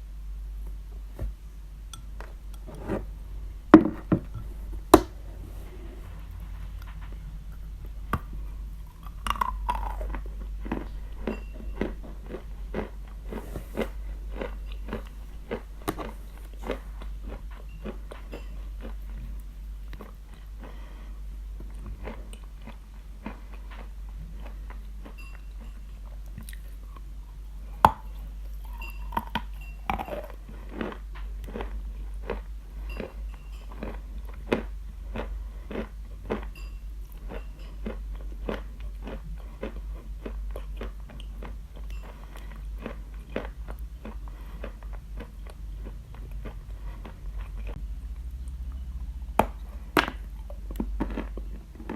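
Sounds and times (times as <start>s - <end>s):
person chewing chalk: 4.3s - 51.9s.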